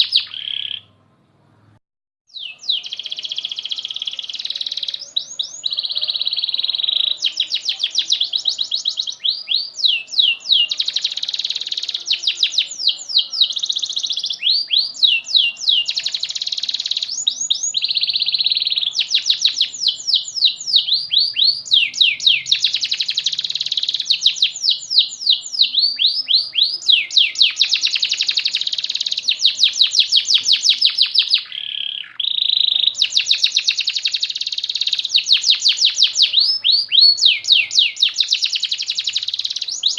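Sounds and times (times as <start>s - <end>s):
canary singing trills and whistles: 0.0s - 1.0s, 2.3s - 39.9s.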